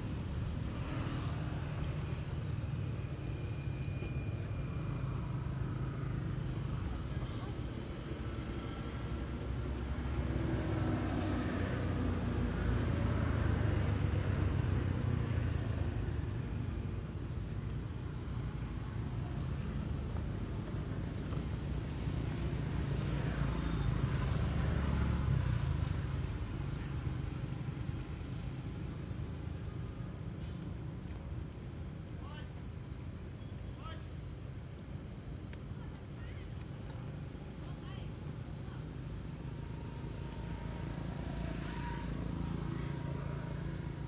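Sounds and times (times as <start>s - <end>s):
passing vehicle engine rumble: 0.0s - 44.0s.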